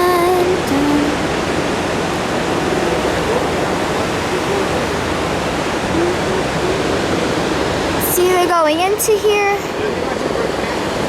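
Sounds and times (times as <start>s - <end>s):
white water rapids roaring: 0.0s - 11.0s.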